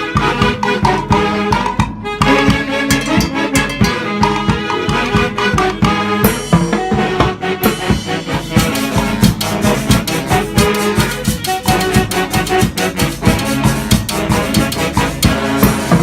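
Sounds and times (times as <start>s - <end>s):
latin dance band playing: 0.0s - 16.0s.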